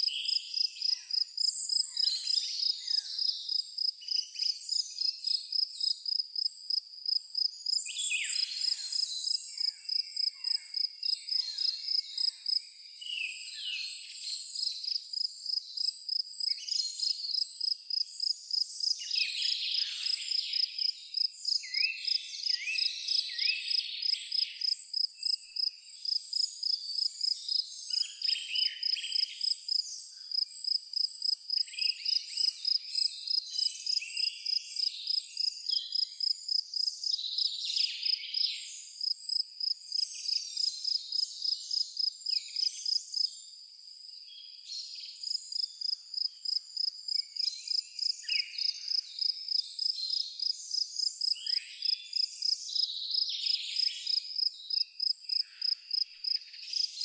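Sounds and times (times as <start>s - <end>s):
cricket chirping: 0.0s - 13.0s, 14.6s - 57.0s.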